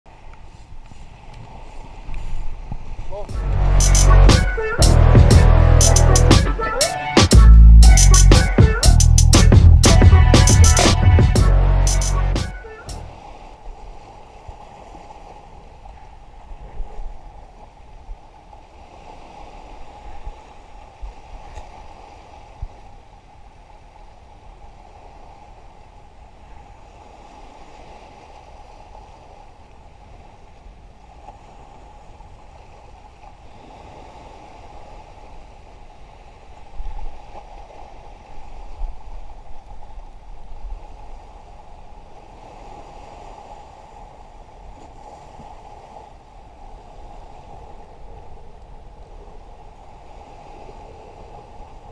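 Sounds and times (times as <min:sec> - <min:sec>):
waves lapping against rocks: 0:00.1 - 0:03.3, 0:13.0 - 0:51.9.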